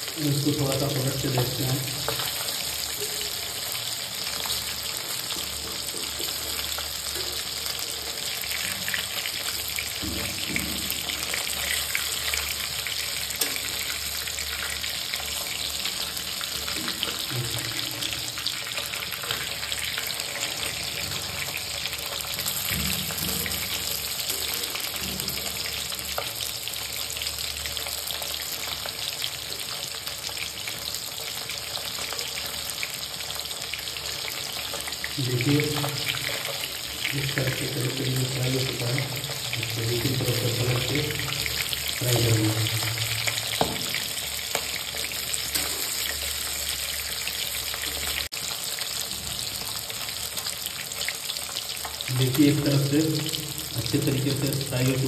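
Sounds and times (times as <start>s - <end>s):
fish frying in hot oil: 0.0s - 55.0s.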